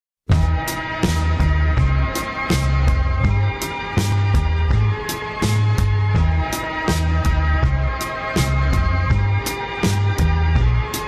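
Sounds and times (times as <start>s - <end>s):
background music with drum beat: 0.3s - 11.0s
bass line: 0.3s - 11.0s.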